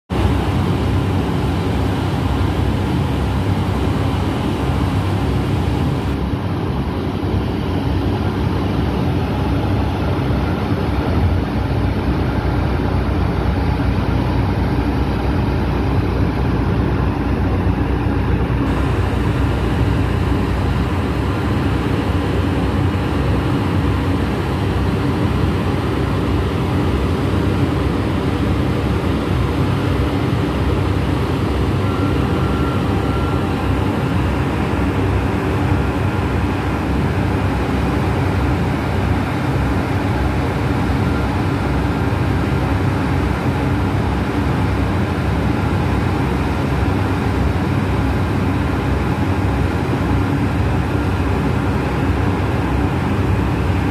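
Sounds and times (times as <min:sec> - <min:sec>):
boat engine running: 0:00.2 - 0:53.9.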